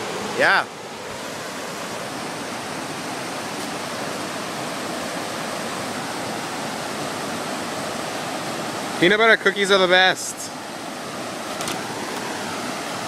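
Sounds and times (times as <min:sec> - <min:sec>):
water rushing over falls: 0:00.0 - 0:13.0.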